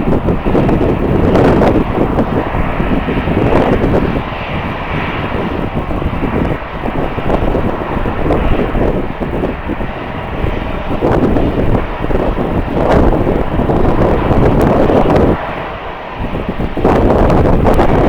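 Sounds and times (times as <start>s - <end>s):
jet engines running: 0.0s - 18.0s
wind buffeting microphone: 0.0s - 18.0s.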